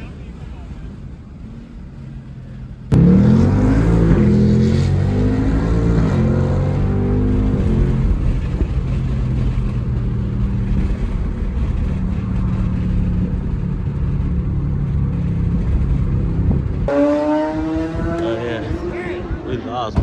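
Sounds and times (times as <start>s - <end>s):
car accelerating: 0.0s - 20.0s
car engine low drone: 0.0s - 20.0s.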